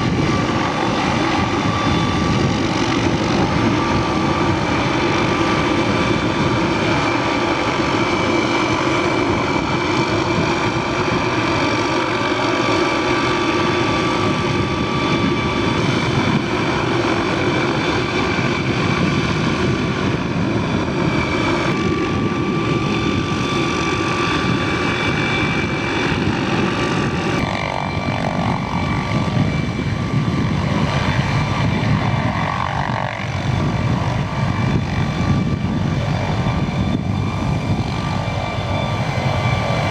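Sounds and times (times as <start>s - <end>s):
high whine of rotor aircraft: 0.0s - 39.9s.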